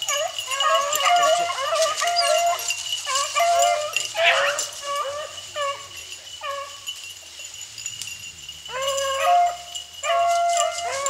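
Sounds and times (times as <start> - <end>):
dogs baying: 0.0 - 11.0.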